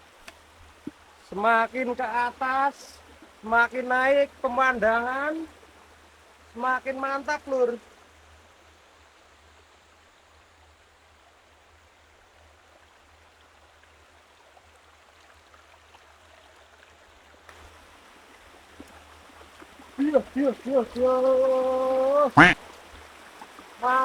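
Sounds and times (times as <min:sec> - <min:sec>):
forest stream rushing: 0:00.0 - 0:24.0.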